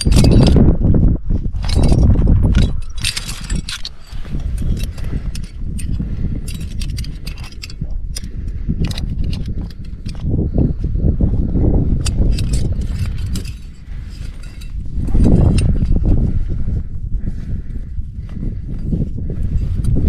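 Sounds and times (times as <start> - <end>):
climbing gear clinking: 0.0 - 20.0.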